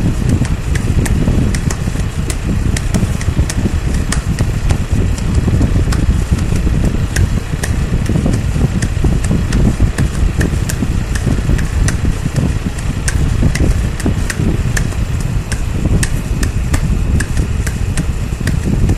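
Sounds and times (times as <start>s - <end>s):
low rumbling drone: 0.0s - 18.9s.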